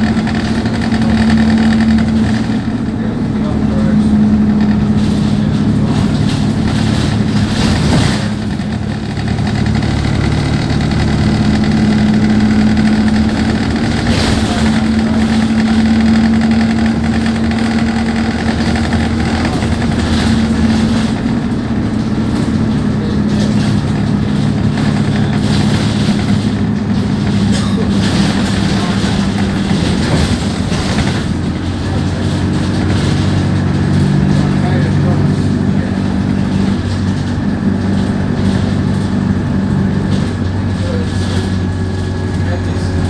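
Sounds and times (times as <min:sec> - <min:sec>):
bus diesel engine drone: 0:00.0 - 0:43.0.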